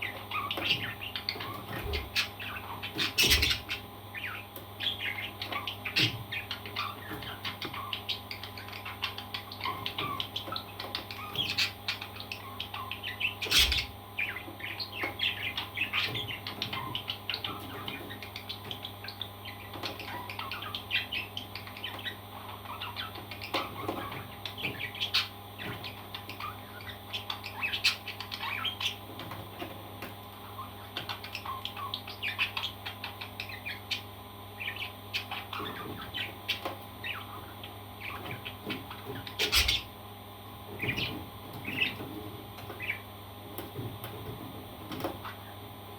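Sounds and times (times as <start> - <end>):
parrots chirping and squawking: 0.0 - 43.1, 43.7 - 45.6.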